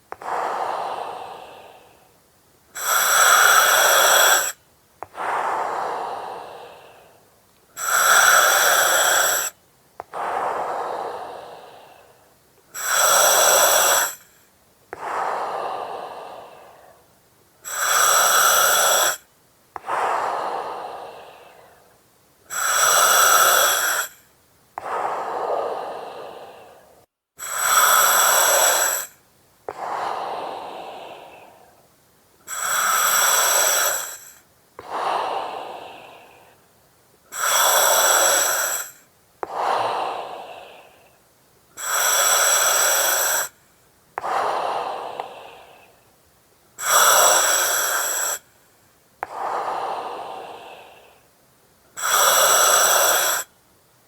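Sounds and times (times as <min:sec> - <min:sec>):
breathing through oxygen mask: 0:00.0 - 0:02.1, 0:02.8 - 0:07.2, 0:07.8 - 0:14.4, 0:15.0 - 0:21.9, 0:22.5 - 0:31.8, 0:32.4 - 0:36.6, 0:37.3 - 0:41.2, 0:41.8 - 0:43.6, 0:44.2 - 0:46.0, 0:46.8 - 0:48.5, 0:49.2 - 0:51.3, 0:52.0 - 0:53.5.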